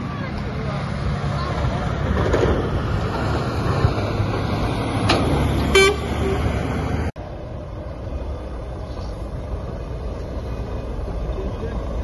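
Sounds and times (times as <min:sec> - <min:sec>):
heavy trucks rumbling: 0:00.0 - 0:12.0
traffic noise: 0:00.0 - 0:12.0.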